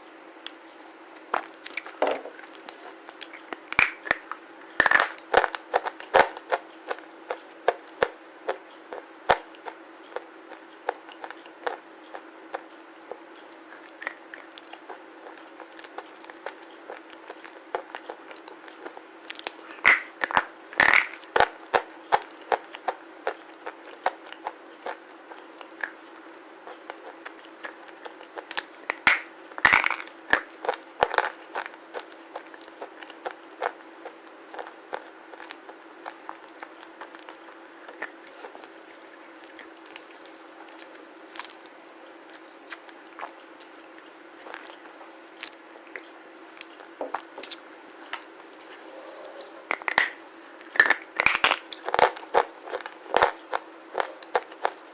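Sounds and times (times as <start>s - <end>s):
faint steady hum: 0.0s - 54.9s
slate being bitten and chewed: 0.0s - 54.9s.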